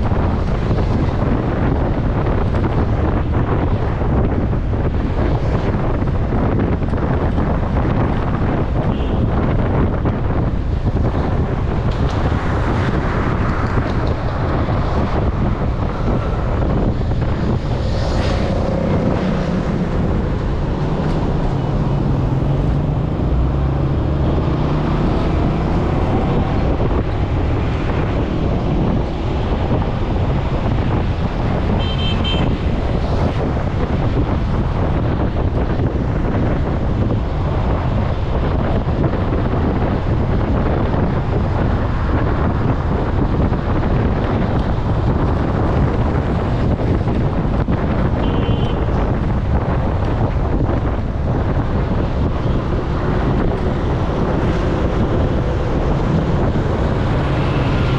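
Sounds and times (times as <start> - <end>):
vehicle engine drone: 0.0 - 57.9
wind rushing over microphone: 0.0 - 57.9.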